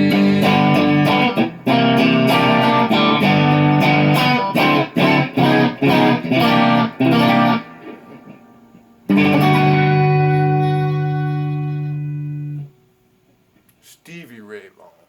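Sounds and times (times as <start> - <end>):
blues guitar playing: 0.0 - 12.8.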